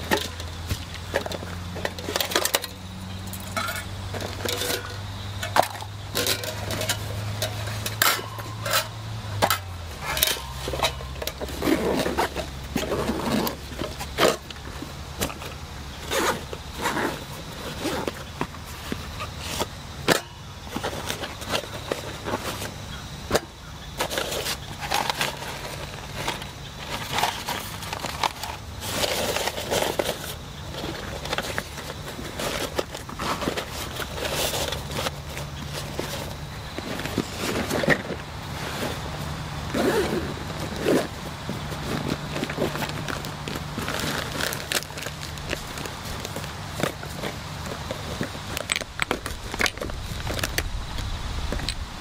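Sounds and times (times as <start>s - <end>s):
canvas rustling and scraping: 0.0s - 52.0s.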